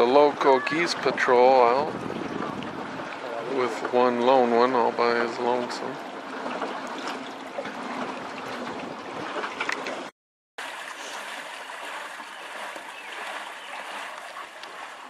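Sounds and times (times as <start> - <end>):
sharp water splashes: 0.0 - 15.0
water lapping against boat: 0.0 - 15.0.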